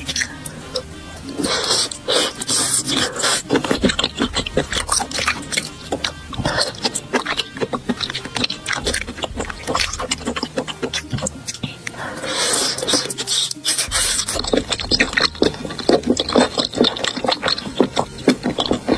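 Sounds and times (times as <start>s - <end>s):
sticky mouth clicks: 0.0s - 18.9s
wet chewing and lip-smacking: 0.0s - 18.9s.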